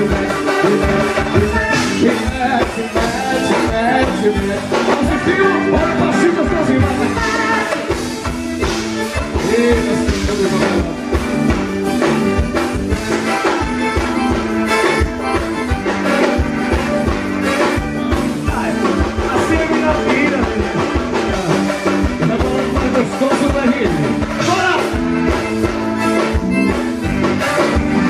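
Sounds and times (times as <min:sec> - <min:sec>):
band playing live: 0:00.0 - 0:28.0
steady drum beat: 0:00.0 - 0:28.0.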